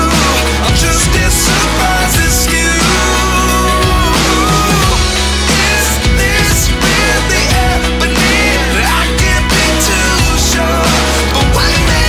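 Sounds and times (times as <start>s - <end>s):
pop song: 0.0s - 12.0s.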